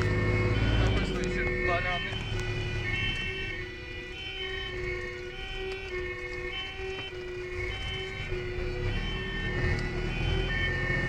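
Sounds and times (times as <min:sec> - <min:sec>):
road noise: 0:00.0 - 0:11.0
truck engine rumble: 0:00.0 - 0:11.0
two-tone fire engine siren: 0:00.0 - 0:11.0.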